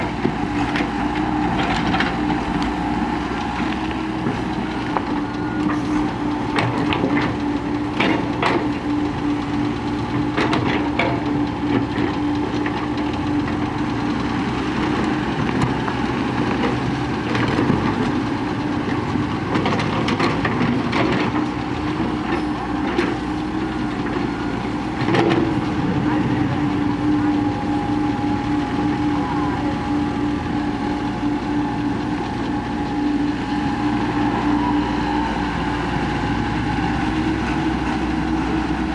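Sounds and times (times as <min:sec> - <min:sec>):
constant hum: 0:00.0 - 0:38.9
diesel machinery engine drone: 0:00.0 - 0:38.9.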